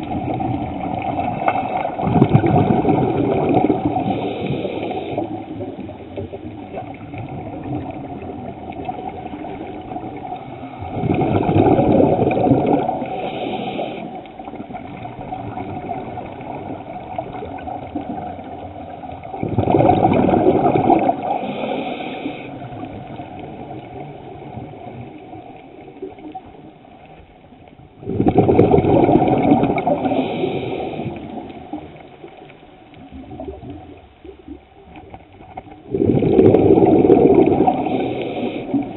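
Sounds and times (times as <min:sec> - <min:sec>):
exhaled bubbles underwater: 0:00.0 - 0:38.9
water noise: 0:00.0 - 0:38.9.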